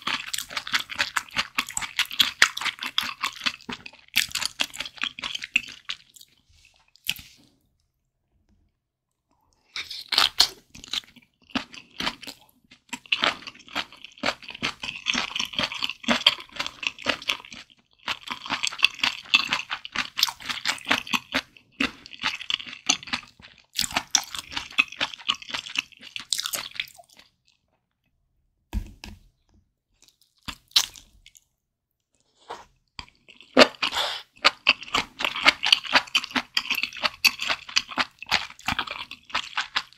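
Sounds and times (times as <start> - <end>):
close-miked chewing food: 0.0 - 7.9, 9.2 - 28.0, 32.1 - 39.9.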